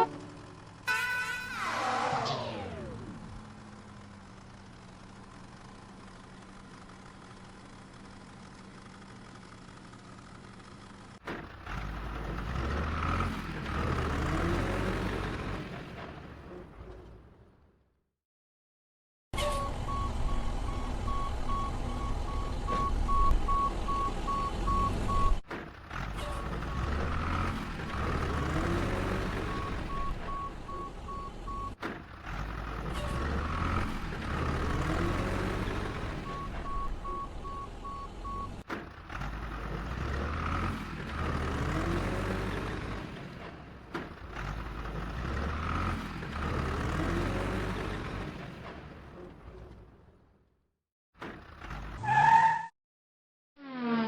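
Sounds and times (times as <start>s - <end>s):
heavy vehicle engine running: 0.0s - 0.9s, 1.5s - 17.6s, 19.4s - 50.3s.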